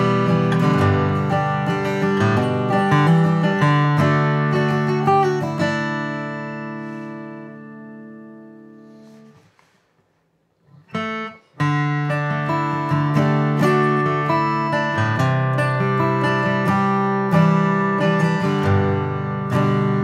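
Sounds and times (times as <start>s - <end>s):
acoustic guitar chords: 0.0s - 9.8s, 10.6s - 20.0s.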